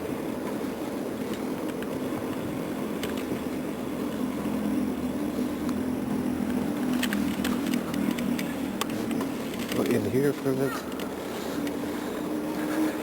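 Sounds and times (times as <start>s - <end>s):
vehicle and road rumble: 0.0s - 13.0s.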